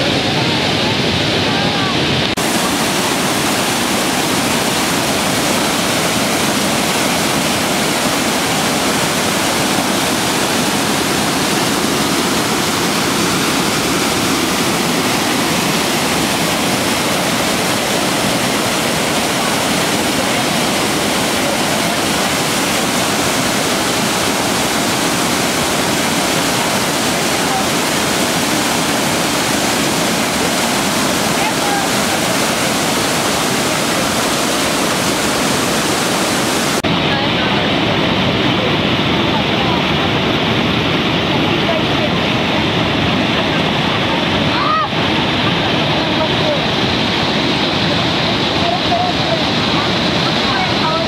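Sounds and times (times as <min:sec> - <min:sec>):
river rapids rushing over rocks: 0:00.0 - 0:51.0.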